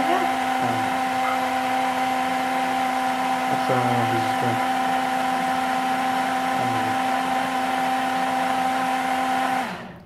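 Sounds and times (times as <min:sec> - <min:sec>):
blender motor whining: 0:00.0 - 0:10.0.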